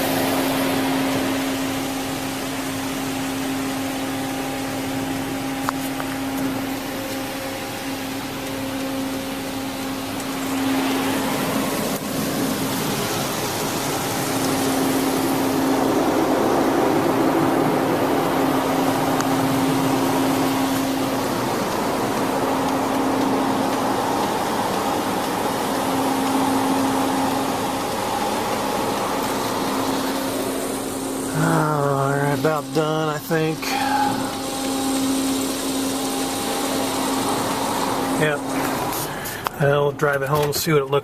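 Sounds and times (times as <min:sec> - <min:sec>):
constant low machinery hum: 0:00.0 - 0:41.0
water spray rushing over car: 0:00.0 - 0:41.0.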